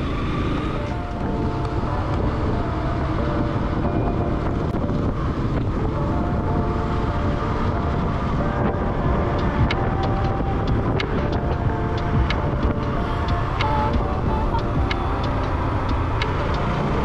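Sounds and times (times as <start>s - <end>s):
vehicle engine rumble: 0.0s - 17.0s
wind buffeting microphone: 0.0s - 17.0s.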